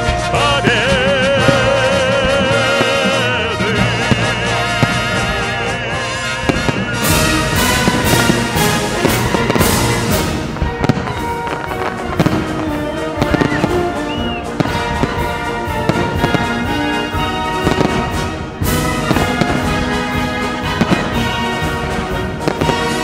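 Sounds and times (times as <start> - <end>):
fireworks bursting and crackling: 0.0 - 23.0
instrumental music: 0.0 - 23.0.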